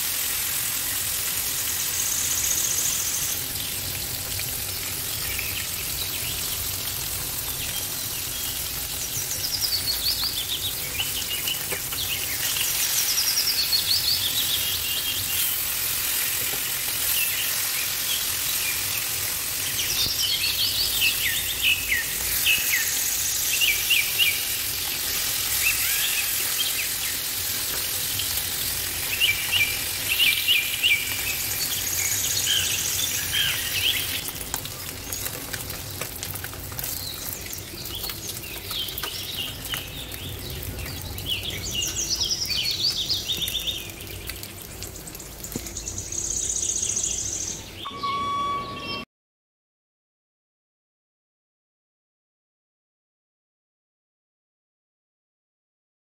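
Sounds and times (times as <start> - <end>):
food sizzling in oil: 0.0 - 47.4
small birds chirping: 0.8 - 49.0.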